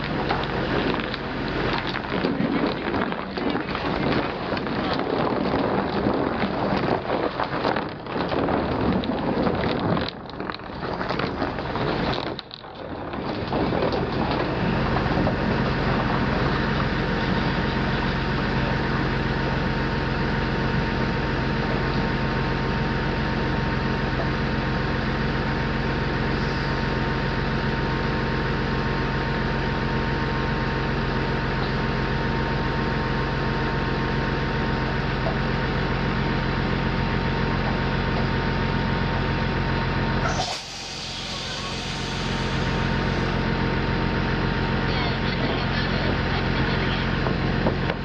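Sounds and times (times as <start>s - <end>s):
diesel engine drone: 0.0s - 48.0s.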